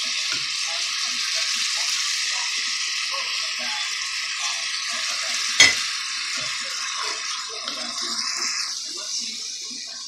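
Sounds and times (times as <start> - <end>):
onions sizzling in oil: 0.0 - 10.0
sauce pouring: 0.0 - 10.0.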